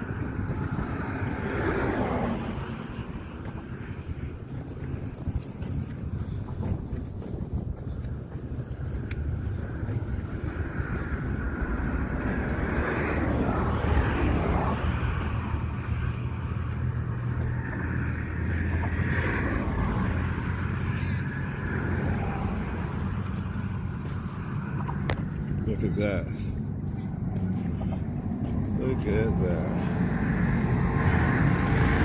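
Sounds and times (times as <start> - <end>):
engine hum: 0.0 - 32.0
road noise: 0.0 - 32.0.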